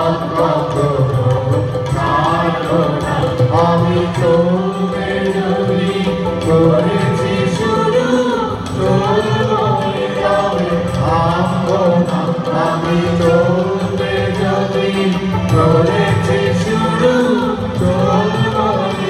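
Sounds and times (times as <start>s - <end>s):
group singing through microphones: 0.0s - 19.0s.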